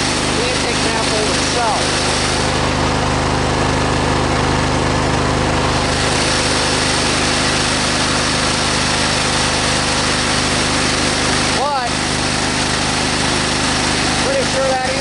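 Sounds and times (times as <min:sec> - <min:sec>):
lawn tractor engine running: 0:00.0 - 0:15.0.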